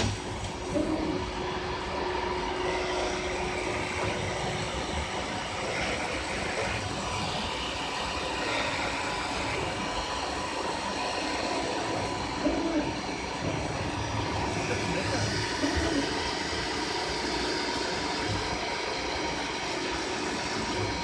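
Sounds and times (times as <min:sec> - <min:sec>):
cnc router running: 0:00.0 - 0:21.0.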